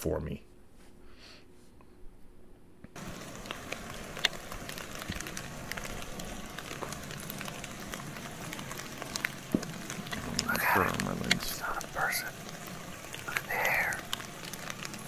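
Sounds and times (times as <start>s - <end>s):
small crackles and ticks: 2.9s - 15.0s
steady outdoor hiss: 2.9s - 15.0s.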